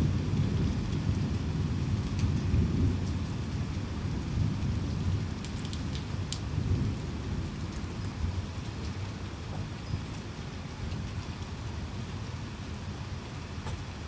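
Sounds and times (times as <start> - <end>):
low rumble of thunder: 0.0 - 14.0
sharp drips ticking: 0.0 - 14.0
steady rain: 0.0 - 14.0.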